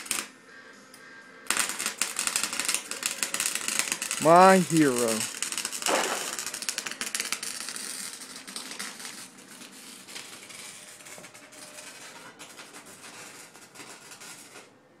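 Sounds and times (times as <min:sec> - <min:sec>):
welding arc crackling: 0:00.0 - 0:00.3, 0:01.5 - 0:14.7.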